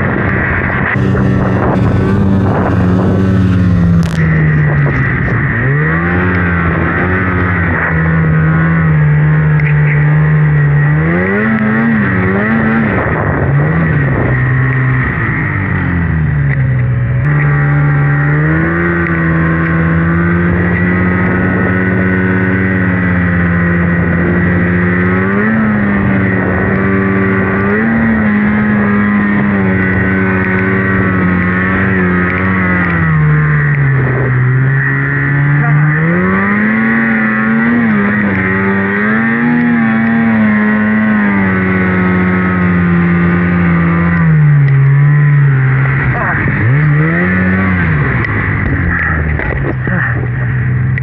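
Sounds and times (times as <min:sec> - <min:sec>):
snowmobile engine revving: 0:00.0 - 0:51.0
steady high whine: 0:00.0 - 0:51.0.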